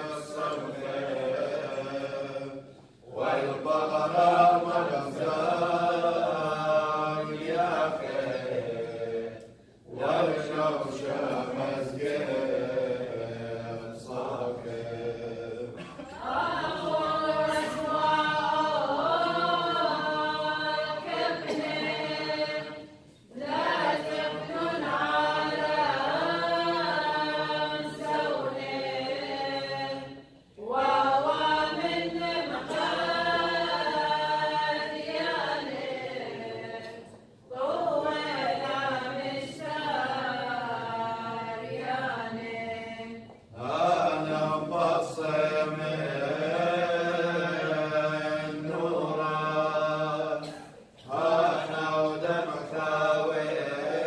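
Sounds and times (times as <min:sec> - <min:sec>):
women's choir chanting a hymn: 0:00.0 - 0:54.0.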